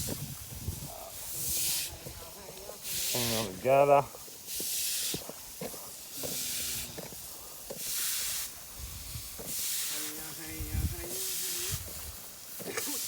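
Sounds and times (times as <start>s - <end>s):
water spraying from a hose: 0.0s - 13.0s.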